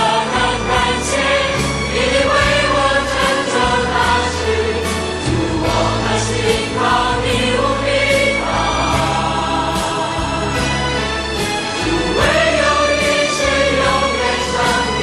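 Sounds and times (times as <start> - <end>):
choir singing held chords: 0.0 - 15.0.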